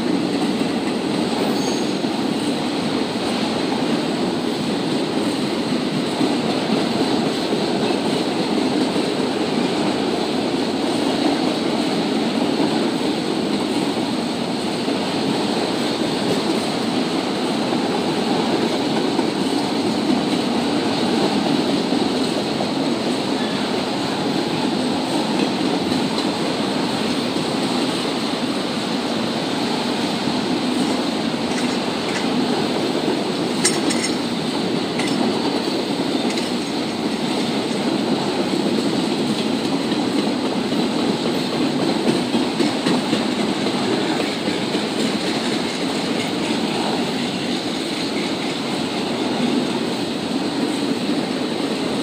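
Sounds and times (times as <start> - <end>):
freight cars rumbling on rails: 0.0 - 52.0.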